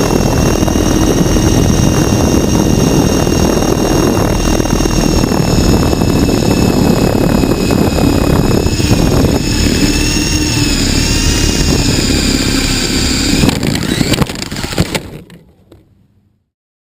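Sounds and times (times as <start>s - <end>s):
rc helicopter motor whine: 0.0s - 15.9s
low rumbling noise: 0.0s - 16.5s.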